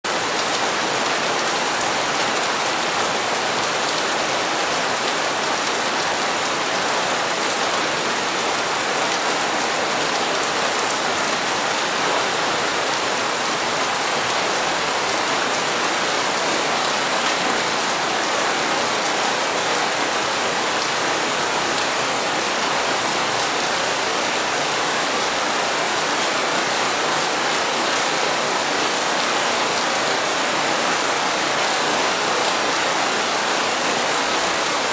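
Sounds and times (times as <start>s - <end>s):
rain on hard surfaces: 0.1s - 34.9s.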